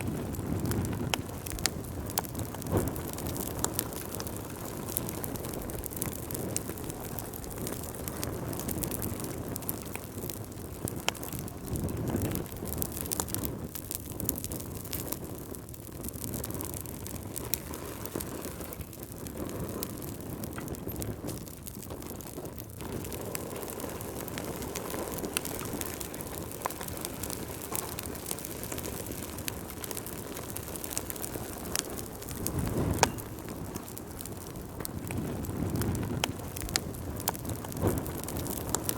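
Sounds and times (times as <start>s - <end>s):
fire crackling and popping: 0.0s - 38.9s
flame rushing: 0.0s - 38.9s.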